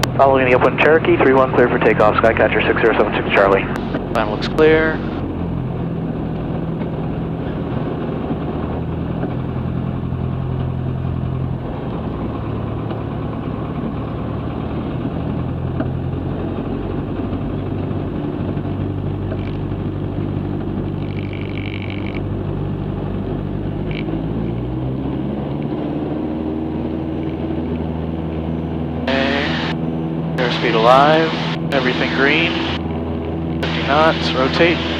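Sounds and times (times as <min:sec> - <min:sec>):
light aircraft engine running: 0:00.0 - 0:34.9.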